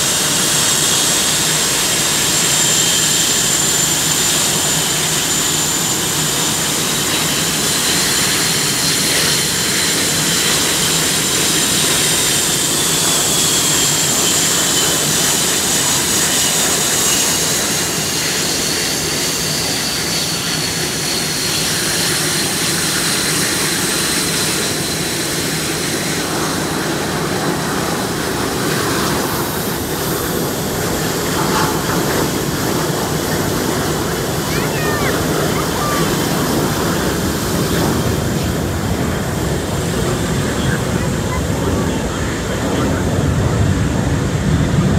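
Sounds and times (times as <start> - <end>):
jet engines whining: 0.0 - 44.9
rush of jet noise: 0.0 - 44.9.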